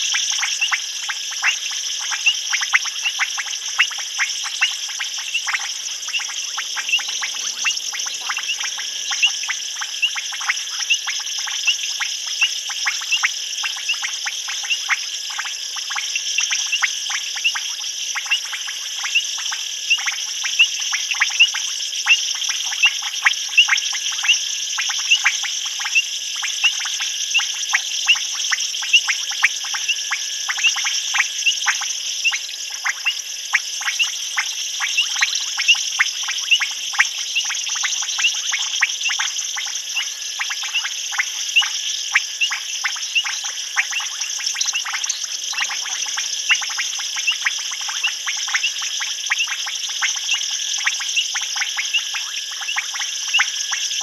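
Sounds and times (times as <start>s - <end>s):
frogs clicking calls: 0.0s - 54.0s.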